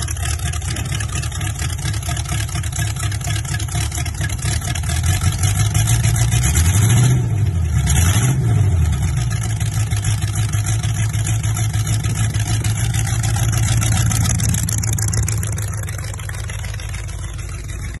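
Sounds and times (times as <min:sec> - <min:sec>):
supercharged engine revving and idling: 0:00.0 - 0:18.0.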